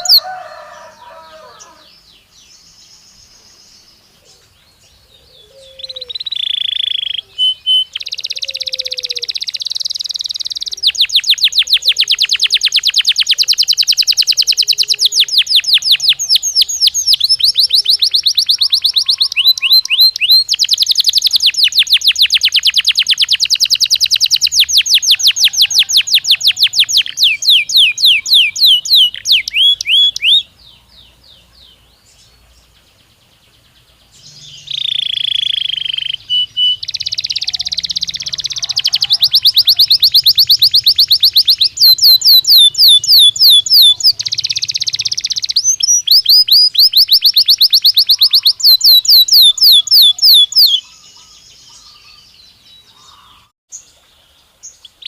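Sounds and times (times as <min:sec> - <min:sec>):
canary trilling: 0:00.0 - 0:01.9, 0:05.2 - 0:31.8, 0:34.1 - 0:53.5
faint bird chirps: 0:00.0 - 0:55.0.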